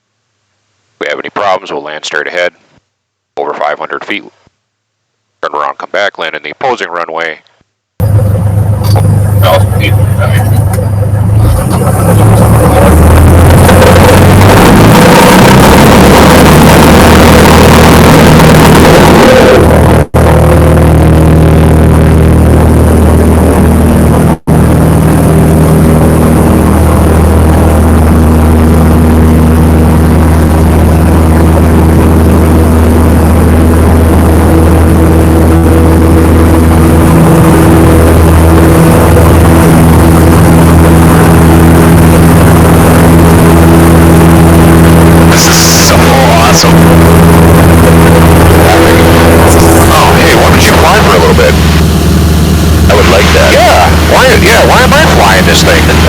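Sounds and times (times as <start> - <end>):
airplane engine and propeller drone: 8.0 - 56.0.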